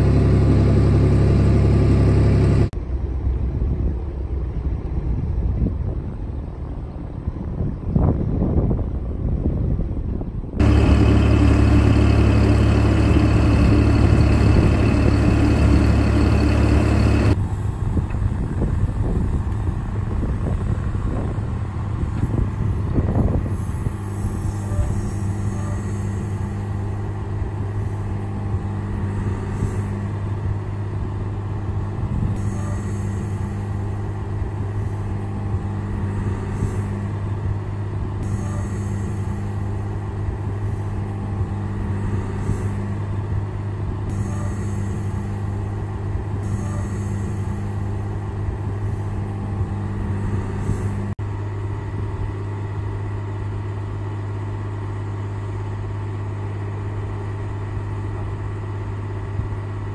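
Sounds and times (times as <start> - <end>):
boat engine running: 0.0 - 7.4, 10.3 - 59.9
hydraulic crane drone: 0.0 - 9.2, 10.2 - 59.9.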